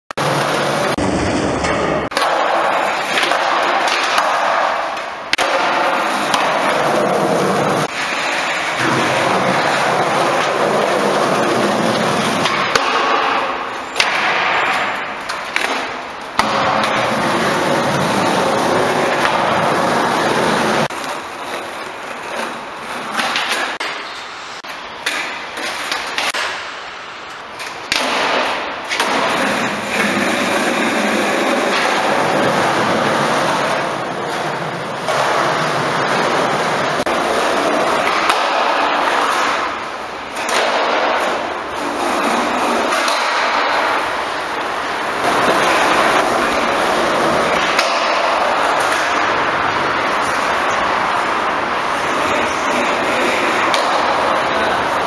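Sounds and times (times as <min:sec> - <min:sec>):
skateboard clacks and knocks: 0:00.1 - 0:55.0
skateboard wheels rolling on concrete: 0:00.1 - 0:55.0.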